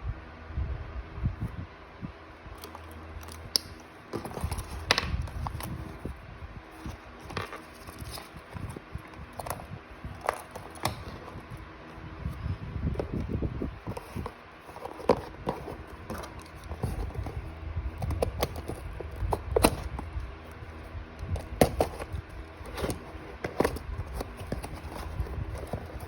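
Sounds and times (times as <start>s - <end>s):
small items and packaging handled: 2.4s - 26.0s
low rumbling contact noise: 4.1s - 26.0s.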